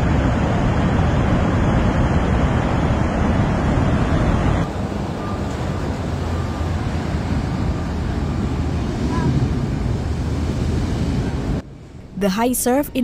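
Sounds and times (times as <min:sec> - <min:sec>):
heavy surf breaking on beach: 0:00.0 - 0:11.6
wind buffeting microphone: 0:00.0 - 0:12.2.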